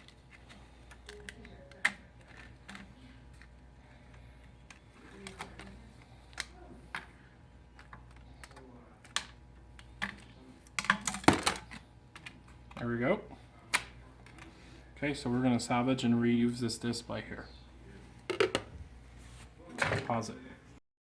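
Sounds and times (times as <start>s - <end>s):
low steady hum: 0.0s - 20.8s.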